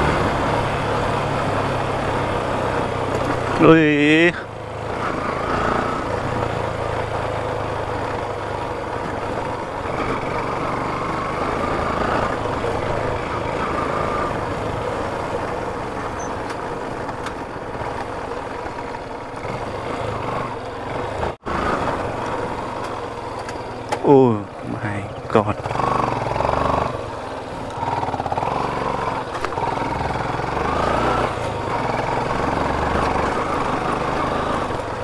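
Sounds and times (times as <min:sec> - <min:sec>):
motorcycle engine running: 0:00.0 - 0:35.0
road and wind noise: 0:00.0 - 0:35.0.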